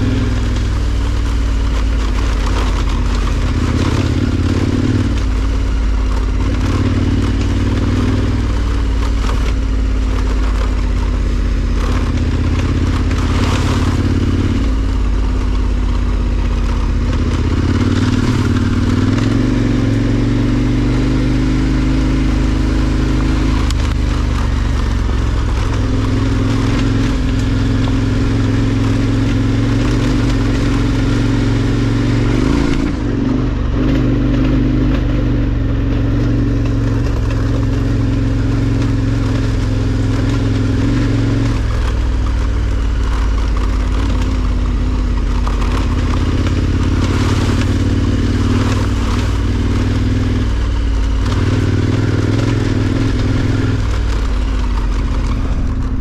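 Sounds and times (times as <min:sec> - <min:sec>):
motorcycle engine running: 0:00.0 - 0:56.0
wind and tyre noise: 0:00.0 - 0:56.0.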